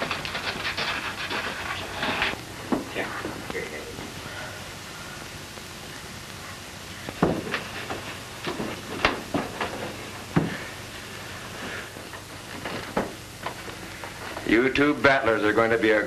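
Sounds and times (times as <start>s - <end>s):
soundtrack hiss: 0.0s - 16.0s.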